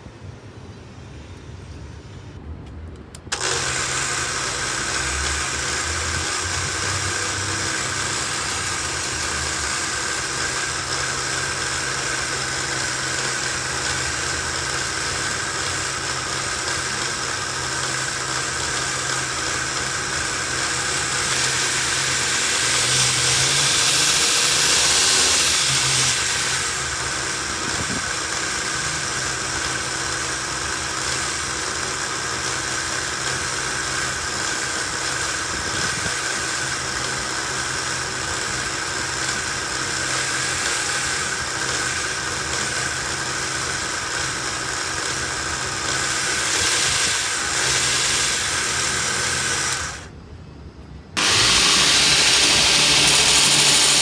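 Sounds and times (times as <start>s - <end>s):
belt grinder whine and hiss: 3.3s - 50.2s, 51.2s - 54.0s.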